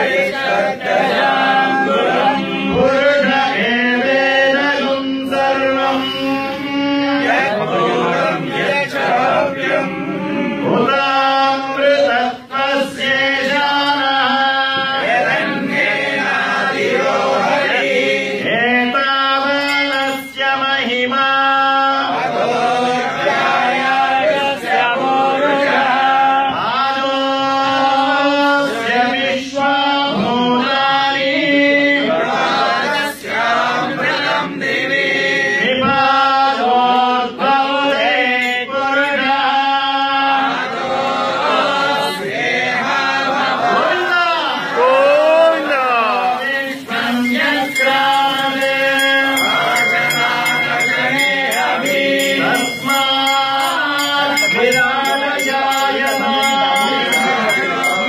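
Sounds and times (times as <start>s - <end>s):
voices chanting in unison: 0.0s - 58.0s.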